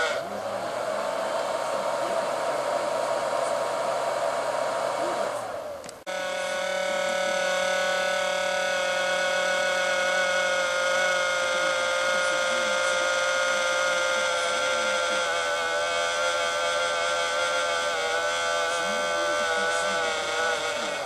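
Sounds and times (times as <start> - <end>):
machine motor whining: 0.0 - 21.0.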